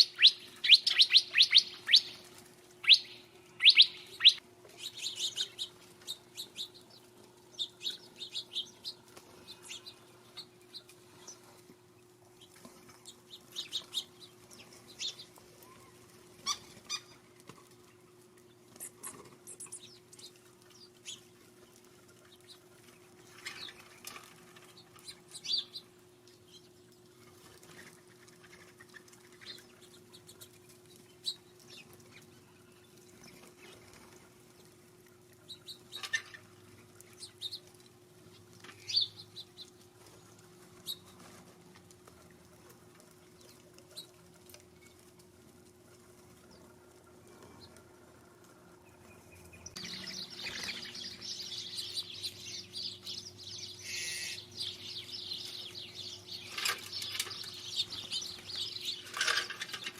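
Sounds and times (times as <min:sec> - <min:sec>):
small birds chirping: 0:00.0 - 0:41.4, 0:46.2 - 0:59.9
faint steady hum: 0:00.0 - 0:59.9.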